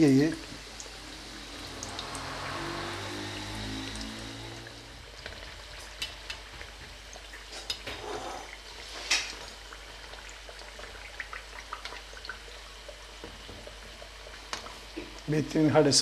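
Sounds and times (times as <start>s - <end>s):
deep-frying sizzle with pops: 0.0s - 16.0s.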